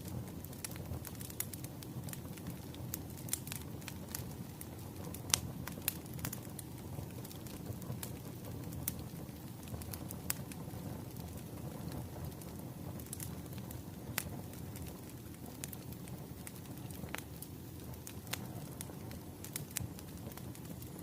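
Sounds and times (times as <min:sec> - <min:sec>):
firewood crackling and popping: 0:00.0 - 0:21.0
low rumble of flames: 0:00.0 - 0:21.0.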